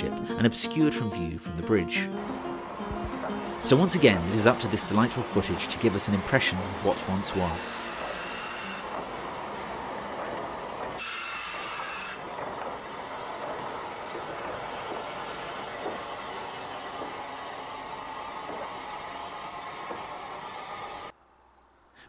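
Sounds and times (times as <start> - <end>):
train wheels rolling: 2.2 - 21.1.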